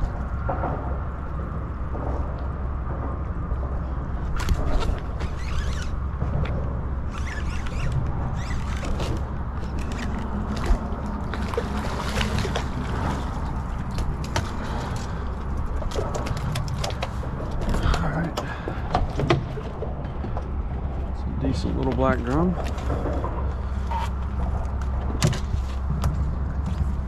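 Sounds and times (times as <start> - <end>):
water sloshing and splashing: 0.0 - 27.0
wind rumble on microphone: 0.0 - 27.0.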